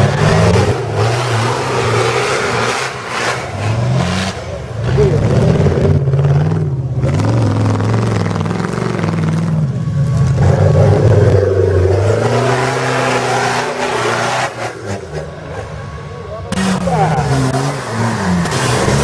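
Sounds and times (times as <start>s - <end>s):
engine revving hard: 0.0s - 19.0s.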